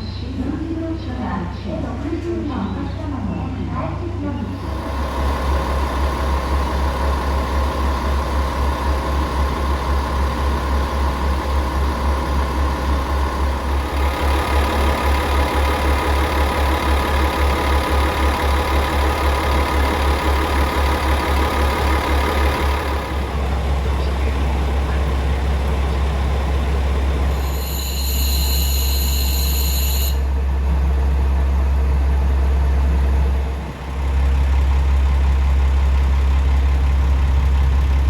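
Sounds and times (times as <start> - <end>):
diesel engine idling: 0.0 - 27.6, 30.2 - 38.0.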